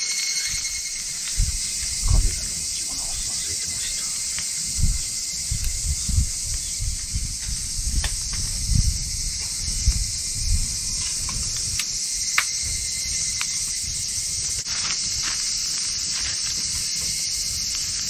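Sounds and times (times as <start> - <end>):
cicada chorus drone: 0.0 - 18.0
wood fire crackling: 0.5 - 18.0
fire popping: 0.6 - 18.0.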